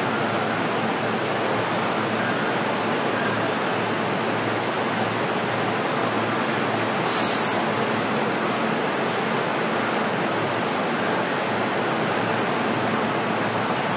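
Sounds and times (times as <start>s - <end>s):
train interior rush: 0.0s - 13.9s.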